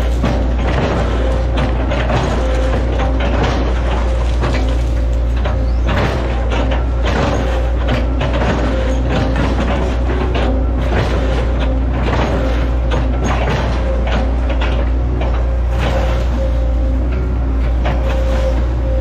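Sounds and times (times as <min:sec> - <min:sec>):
wood cracking and crunching: 0:00.0 - 0:18.7
excavator diesel engine running: 0:00.0 - 0:19.0.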